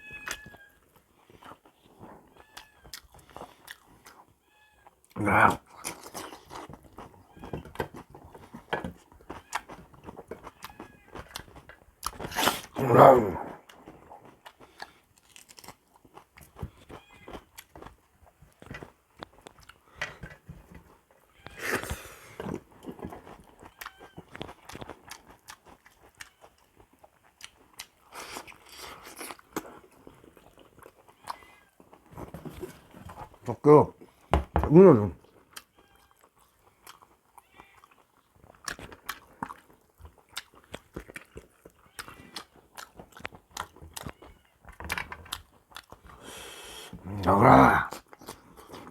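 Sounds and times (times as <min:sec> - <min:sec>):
person chewing and biting: 0:00.2 - 0:04.3, 0:05.6 - 0:20.0, 0:21.5 - 0:34.3, 0:35.2 - 0:48.9.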